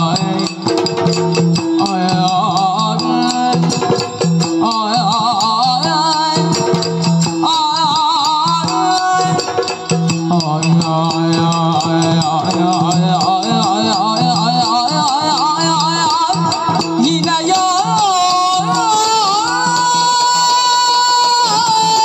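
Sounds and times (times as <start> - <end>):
drum strokes: 0.0 - 22.0
small hand cymbals: 0.0 - 22.0.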